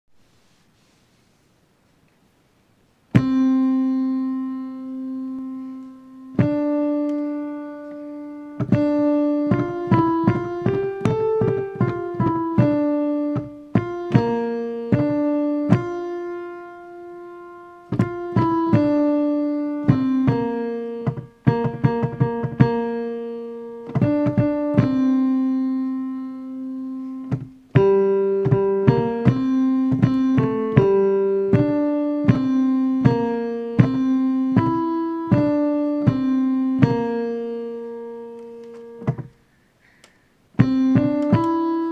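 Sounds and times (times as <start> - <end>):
piano playing single notes: 3.1 - 41.9.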